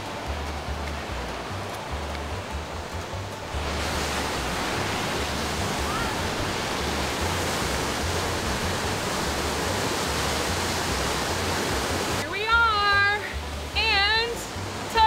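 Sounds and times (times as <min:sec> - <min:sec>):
river water rushing through rapids: 0:00.0 - 0:15.0.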